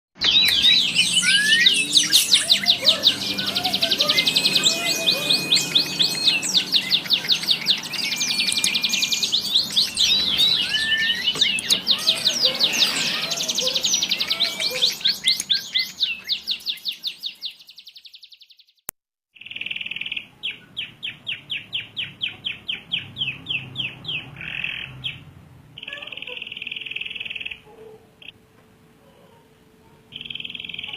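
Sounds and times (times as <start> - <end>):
canary singing trills: 0.2 - 18.7, 19.4 - 28.4, 29.0 - 30.9.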